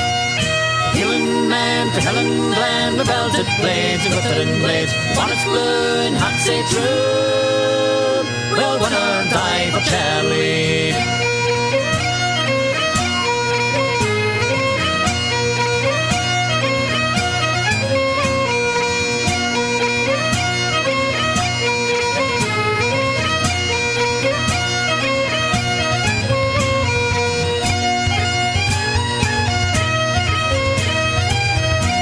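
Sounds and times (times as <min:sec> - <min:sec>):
bagpipes playing melody over drones: 0:00.0 - 0:32.0.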